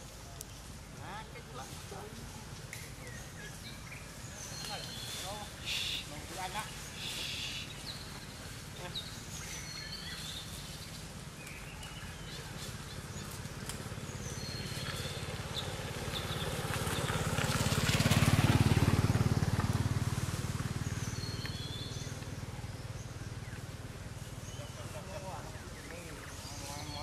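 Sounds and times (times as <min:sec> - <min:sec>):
motor vehicle passing: 0:00.6 - 0:27.0.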